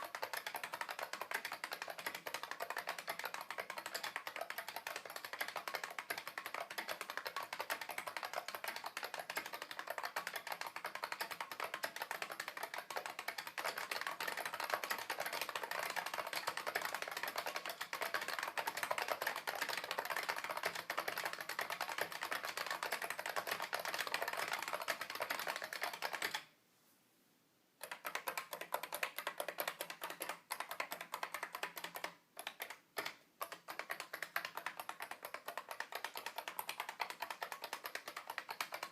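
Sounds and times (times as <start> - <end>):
fast typing on keyboard: 0.0 - 26.5, 27.8 - 38.9.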